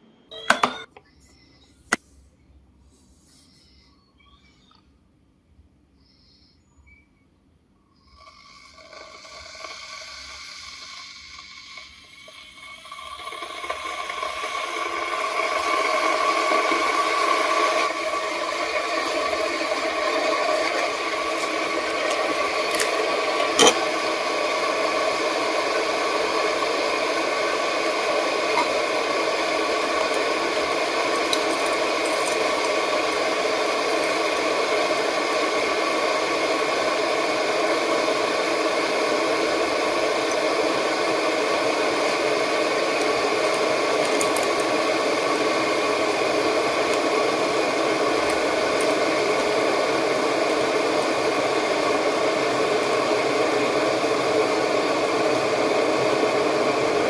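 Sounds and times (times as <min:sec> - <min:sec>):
kettle water hissing: 0:07.9 - 0:57.0.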